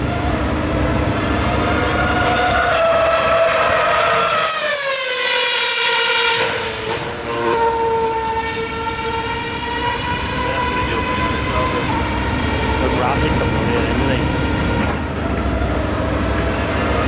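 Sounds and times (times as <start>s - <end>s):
racing car engine passing at high revs: 0.0s - 17.0s.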